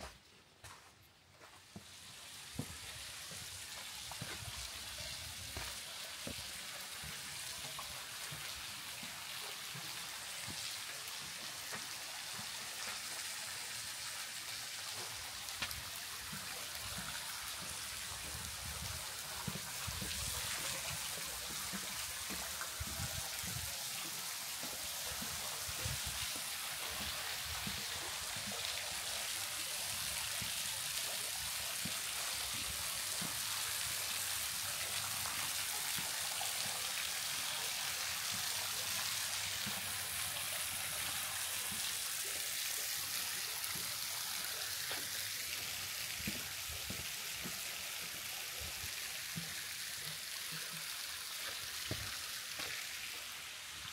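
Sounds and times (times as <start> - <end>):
running water hiss: 1.4 - 53.9.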